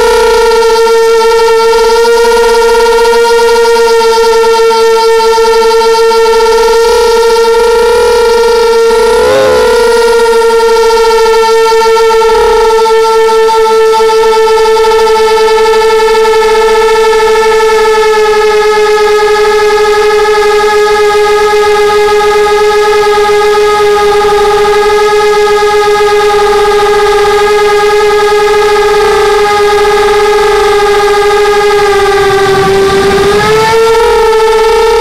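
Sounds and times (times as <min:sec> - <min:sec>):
drone motors and propellers whining: 0:00.0 - 0:35.0.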